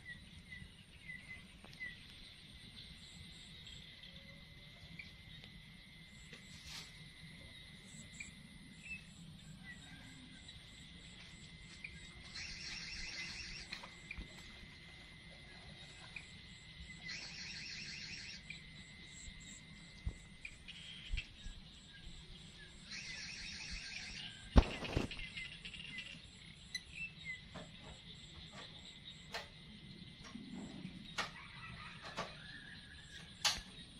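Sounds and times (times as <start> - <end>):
insects trilling: 0.0 - 33.9
rapid insect chirping: 0.0 - 33.9.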